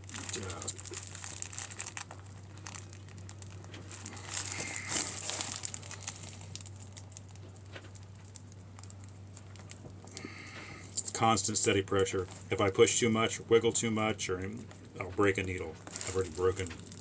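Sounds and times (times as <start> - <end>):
sailcloth crinkling and rustling: 0.0 - 10.1, 11.0 - 17.0.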